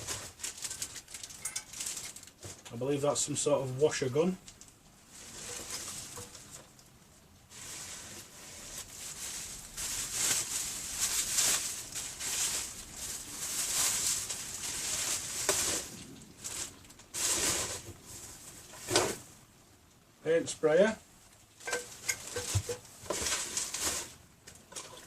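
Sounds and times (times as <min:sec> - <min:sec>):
plastic packaging rustling: 0:00.0 - 0:19.3, 0:21.4 - 0:25.0.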